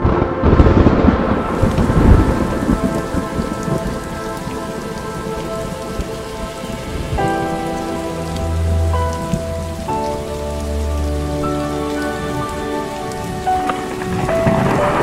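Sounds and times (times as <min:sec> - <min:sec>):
loud thunder rumble: 0:00.0 - 0:15.0
rain splashing on wet pavement: 0:00.0 - 0:15.0.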